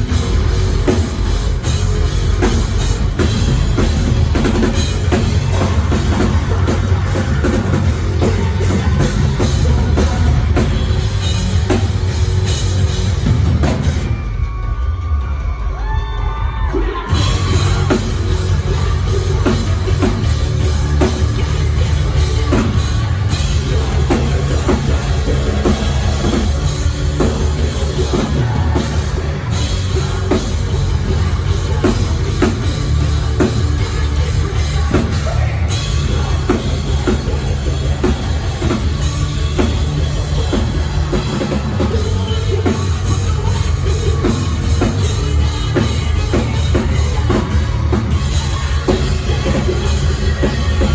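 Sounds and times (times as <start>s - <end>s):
pounding drum kit: 0.0s - 50.9s
rock band playing live: 0.0s - 50.9s.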